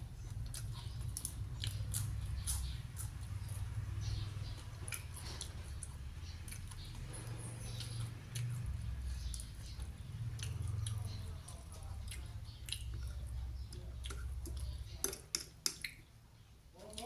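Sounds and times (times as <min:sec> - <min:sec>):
person chewing: 0:00.0 - 0:16.1.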